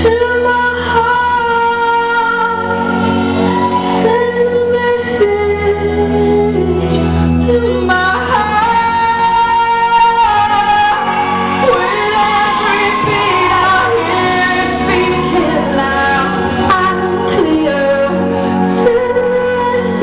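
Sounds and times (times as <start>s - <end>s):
person singing: 0.0s - 20.0s.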